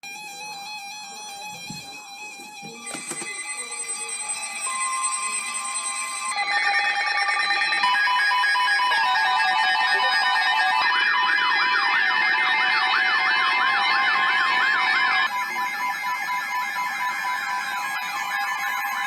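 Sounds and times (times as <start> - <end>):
siren-like warble: 0.8 - 19.0
steady electronic alert tones: 2.2 - 19.0
electronic beeping tones: 2.7 - 19.0.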